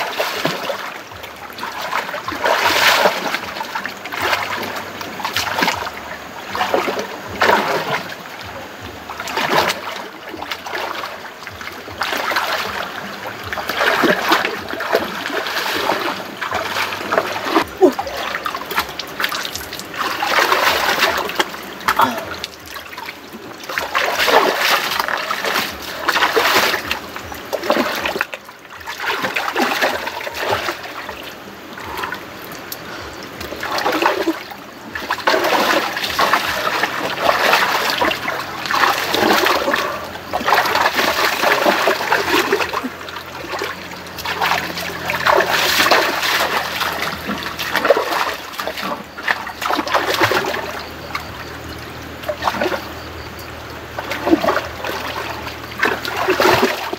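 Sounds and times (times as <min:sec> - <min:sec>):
feet running through water: 0:00.0 - 0:08.2, 0:08.9 - 0:56.9.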